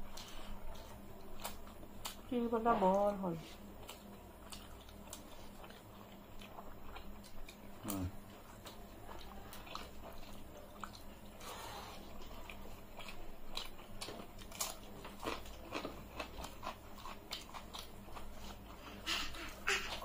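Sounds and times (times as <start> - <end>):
chewing crisp food: 0.0 - 20.0.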